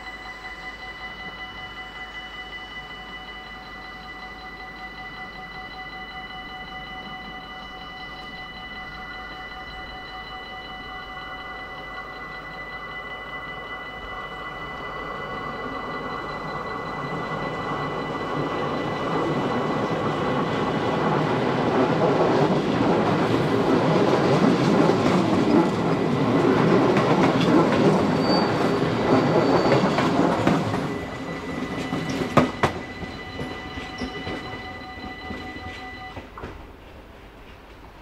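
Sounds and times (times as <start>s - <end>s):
level crossing warning bell: 0.0s - 36.4s
train rumbling past: 0.0s - 38.0s
sharp train clacks: 3.8s - 38.0s.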